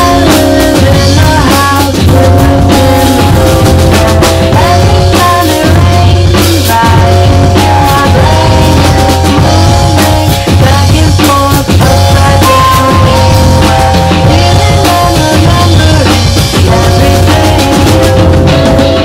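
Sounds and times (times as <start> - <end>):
drum kit playing: 0.0 - 19.0
recorded rock song: 0.0 - 19.0.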